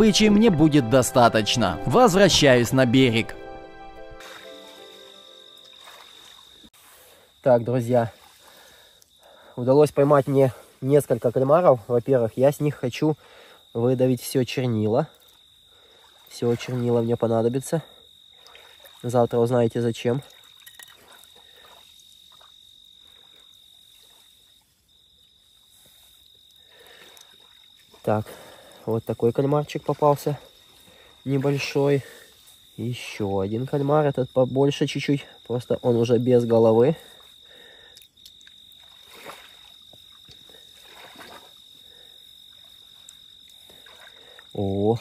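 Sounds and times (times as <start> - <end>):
high-pitched insect trill: 4.2 - 45.0.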